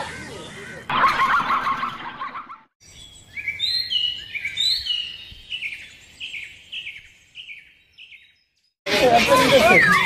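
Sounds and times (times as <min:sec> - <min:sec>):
bird chirping: 0:01.4 - 0:10.0.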